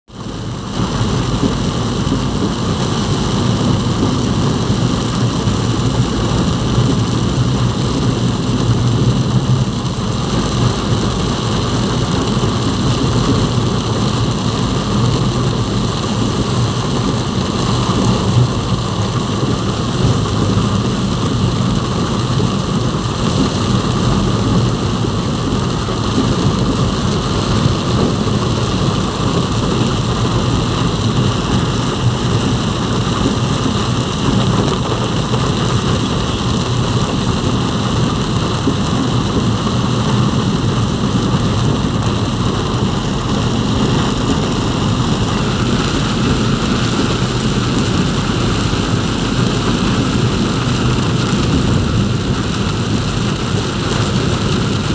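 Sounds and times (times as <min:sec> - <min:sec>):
engine and road noise: 0:00.1 - 0:54.9
heavy rain on vehicle: 0:00.1 - 0:54.9.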